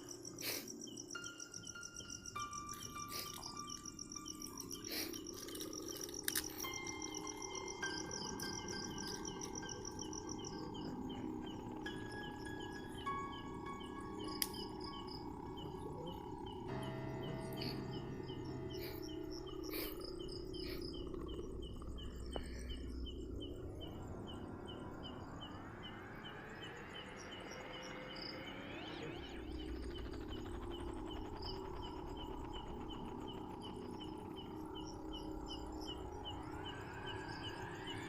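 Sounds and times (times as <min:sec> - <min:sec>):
insects chirping: 0:00.0 - 0:38.0
low background hum: 0:00.0 - 0:38.0
faint rising whine: 0:06.7 - 0:38.0.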